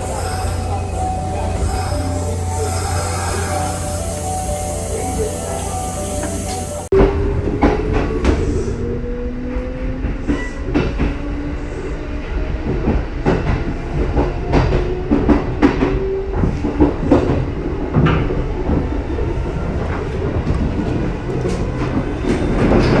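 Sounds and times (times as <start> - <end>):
electric train rumble: 0.0 - 23.0.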